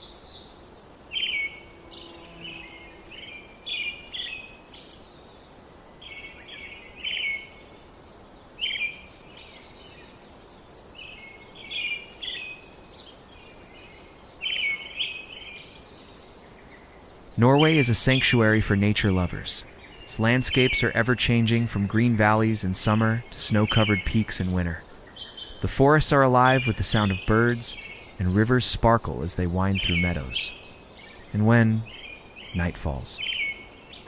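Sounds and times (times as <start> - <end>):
faint steady hiss: 0.0 - 34.0
songbirds chirping: 0.0 - 34.0.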